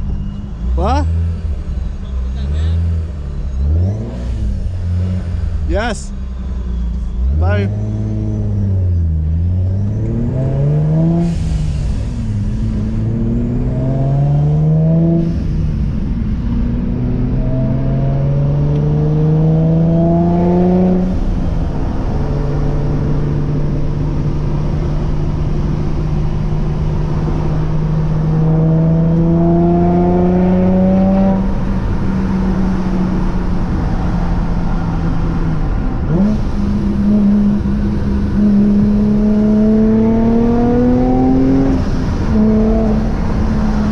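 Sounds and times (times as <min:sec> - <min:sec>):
car engine accelerating through gears: 0:00.0 - 0:43.9.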